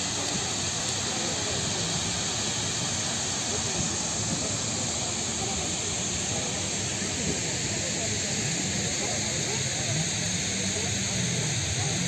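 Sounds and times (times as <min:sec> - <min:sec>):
indistinct crowd voices: 0:00.0 - 0:12.0
waterfall rushing hiss: 0:00.0 - 0:12.0.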